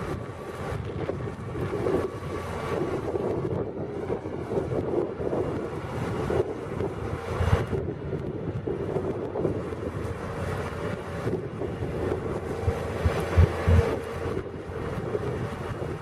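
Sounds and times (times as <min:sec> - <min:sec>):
tractor diesel engine under load: 0:00.0 - 0:16.0
wind buffeting microphone: 0:00.0 - 0:16.0.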